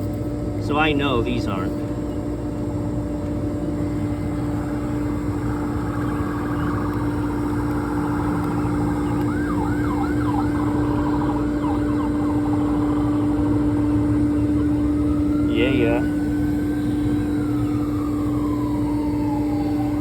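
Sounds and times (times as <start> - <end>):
low machine hum: 0.0 - 20.0
siren yelping: 3.4 - 20.0.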